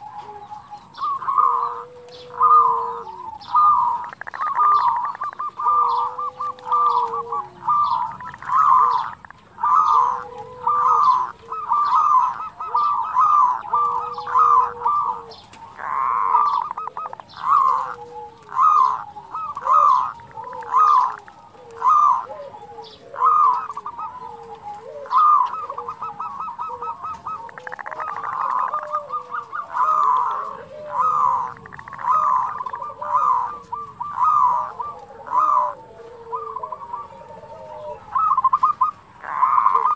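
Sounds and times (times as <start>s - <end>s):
dove cooing: 0.0s - 39.9s
rough grating bird calls: 0.0s - 39.9s.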